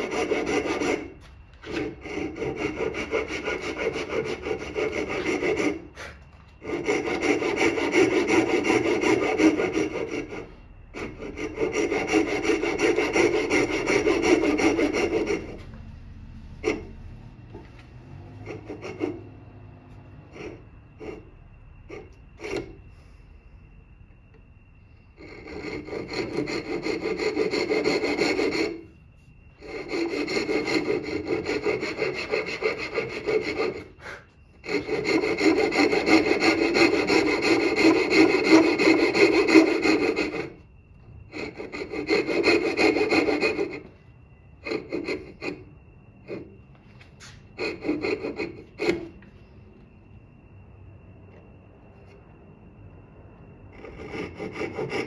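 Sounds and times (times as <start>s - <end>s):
tool rasping on wood: 0.0s - 15.9s, 16.5s - 22.8s, 25.2s - 29.0s, 29.6s - 44.0s, 44.6s - 46.6s, 47.2s - 49.3s, 53.8s - 55.0s.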